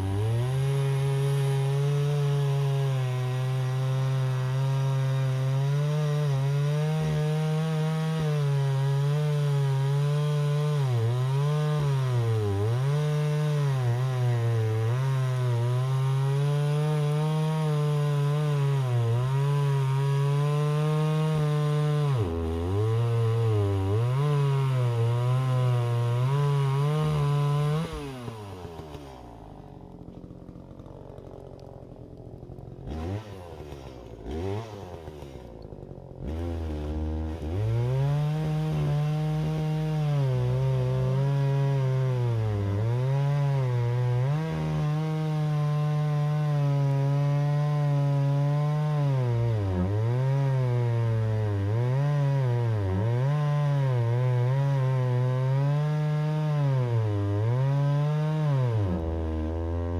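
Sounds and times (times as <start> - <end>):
chainsaw cutting wood: 0.0 - 59.9
chainsaw revving and idling: 0.0 - 59.9.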